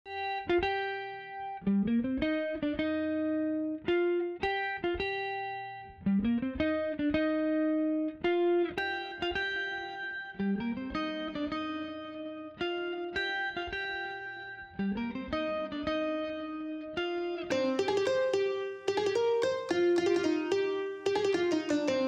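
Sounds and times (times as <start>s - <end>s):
plucked guitar melody: 0.1s - 22.0s.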